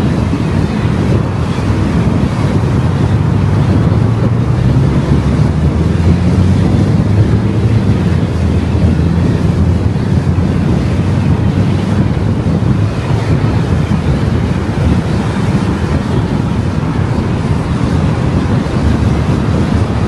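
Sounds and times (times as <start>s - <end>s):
low engine hum: 0.0s - 20.0s
road and wind noise: 0.0s - 20.0s.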